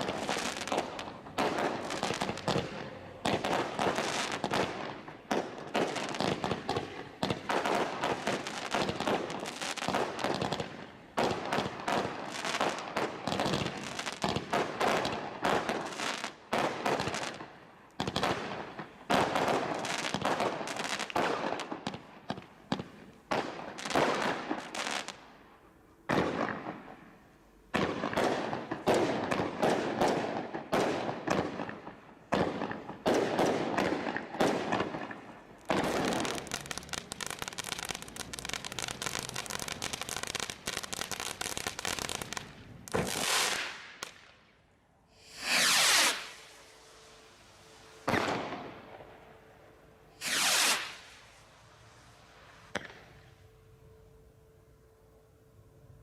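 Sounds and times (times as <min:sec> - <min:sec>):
firework cracks and bangs: 0:00.0 - 0:25.2, 0:26.1 - 0:26.9, 0:27.8 - 0:44.4, 0:45.2 - 0:46.6, 0:48.0 - 0:48.9, 0:50.2 - 0:51.4, 0:52.6 - 0:53.1.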